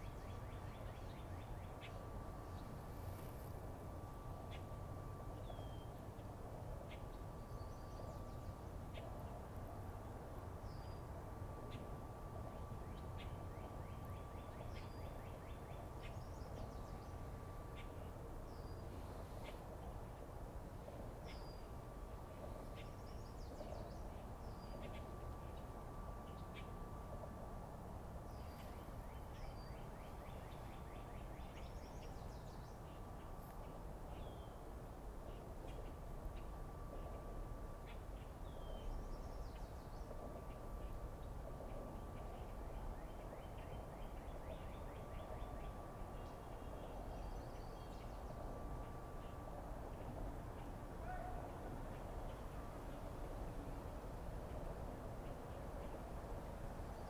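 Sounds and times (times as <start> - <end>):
faint hum: 0.0 - 57.0.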